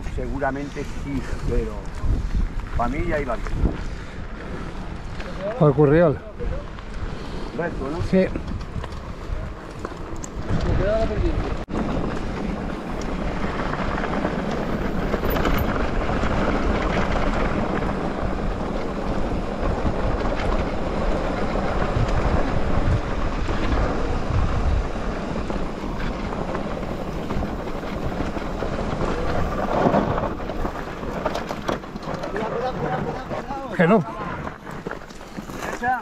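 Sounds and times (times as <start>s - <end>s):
wind on microphone: 0.0s - 5.5s, 6.2s - 35.8s
bike tyres on gravel: 0.0s - 36.0s.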